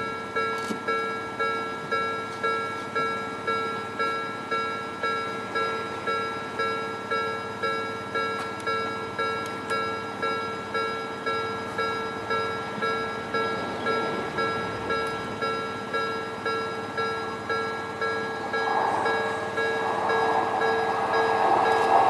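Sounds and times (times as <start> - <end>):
level crossing bell ringing: 0.0 - 22.0.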